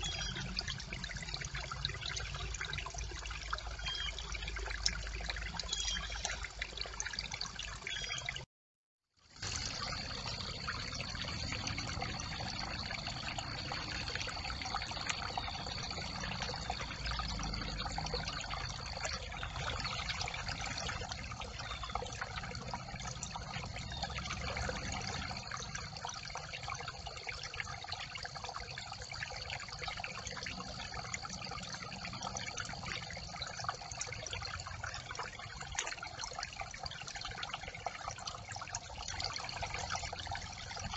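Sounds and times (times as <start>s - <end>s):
brook water running: 0.0s - 8.5s, 9.2s - 40.9s.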